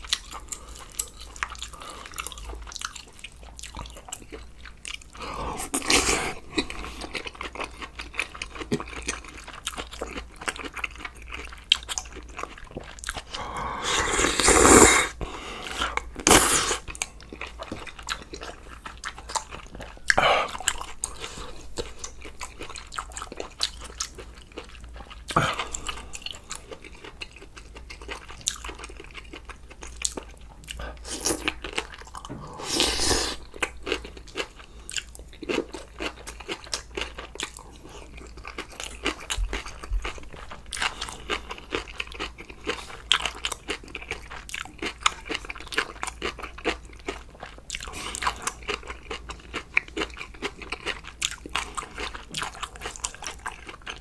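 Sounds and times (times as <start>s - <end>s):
man chewing and biting food: 0.0s - 54.0s.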